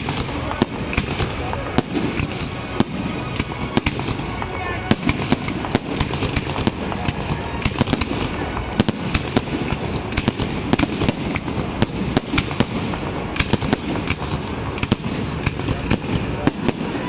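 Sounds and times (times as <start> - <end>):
continuous rumble: 0.0 - 17.0
fireworks bursting: 0.0 - 17.0.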